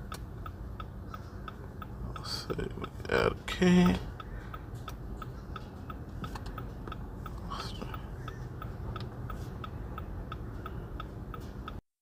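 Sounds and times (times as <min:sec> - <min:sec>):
electronic ticking: 0:00.0 - 0:11.8.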